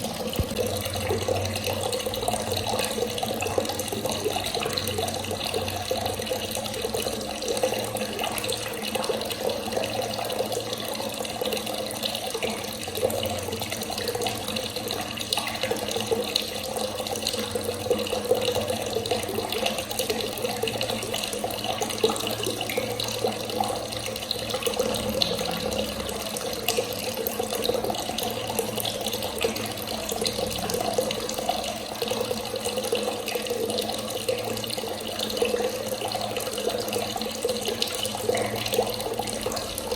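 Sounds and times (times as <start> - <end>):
tap water running and splashing: 0.0 - 39.9.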